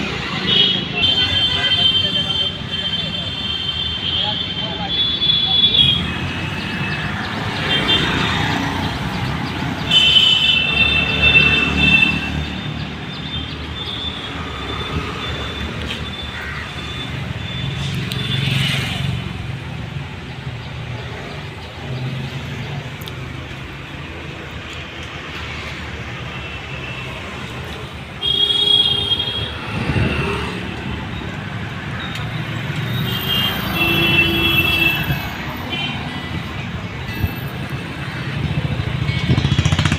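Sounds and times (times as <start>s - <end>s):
traffic rumble: 0.0s - 39.9s.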